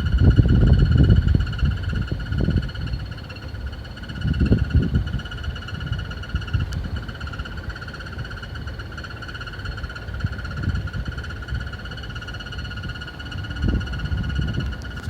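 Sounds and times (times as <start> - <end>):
low rumbling: 0.0 - 8.7, 9.9 - 15.0.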